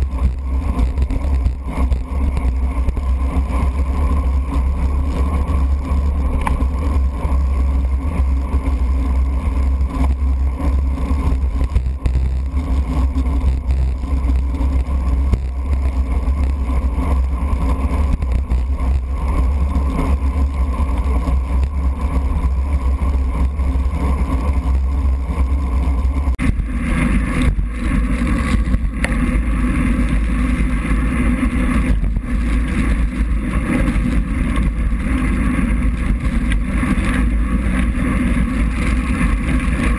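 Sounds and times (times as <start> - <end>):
tyre noise on wet road: 0.0 - 39.9
wind rumble: 0.0 - 39.9.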